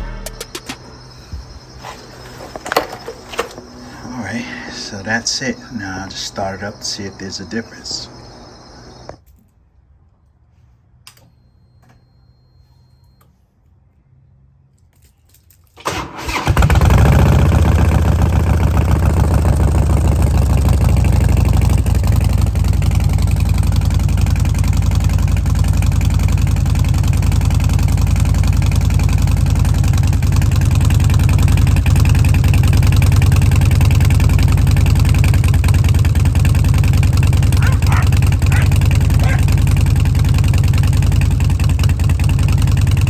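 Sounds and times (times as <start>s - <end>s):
motorcycle engine starting and idling: 0.0s - 9.2s, 15.8s - 43.0s.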